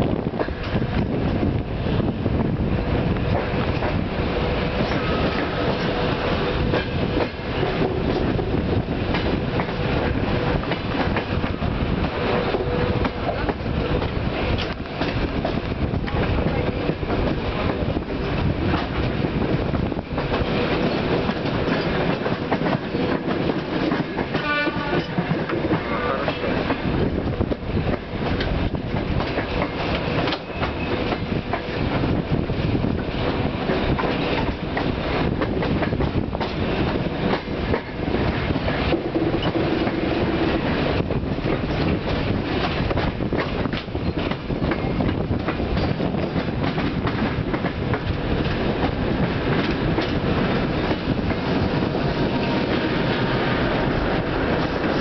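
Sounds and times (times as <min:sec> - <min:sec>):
train wheels clattering over rail joints: 0:00.1 - 0:55.0.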